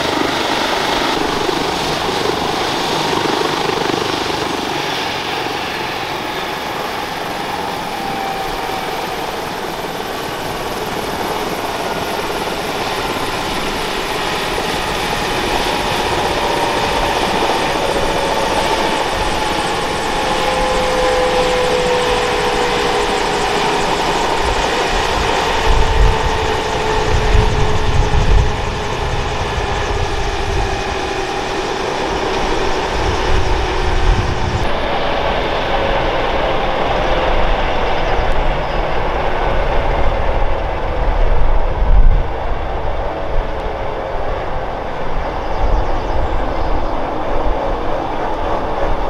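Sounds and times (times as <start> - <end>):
helicopter rotor turning: 0.0 - 49.0
helicopter turbine whine: 0.0 - 49.0
rotor wash rumbling on microphone: 0.0 - 49.0.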